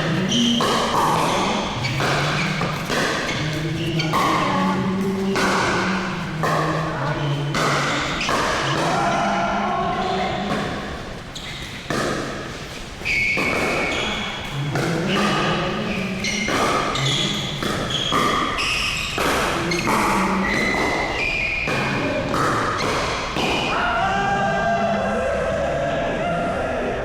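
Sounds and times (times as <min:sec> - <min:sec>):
ball bouncing on court: 0:00.0 - 0:23.8.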